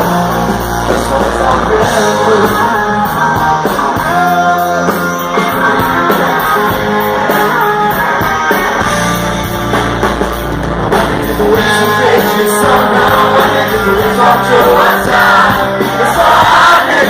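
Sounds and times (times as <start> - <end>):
bass guitar: 0.0 - 17.0
drum kit: 0.0 - 17.0
electric guitars: 0.0 - 17.0.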